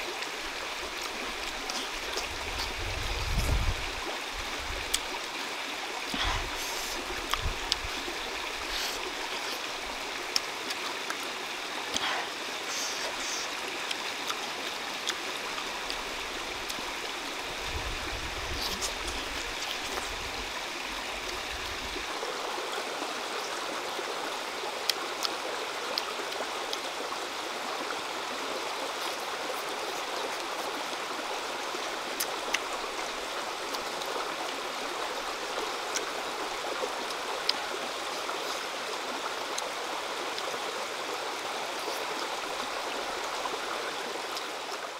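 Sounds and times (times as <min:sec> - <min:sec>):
stream flowing over rocks: 0:00.0 - 0:44.9.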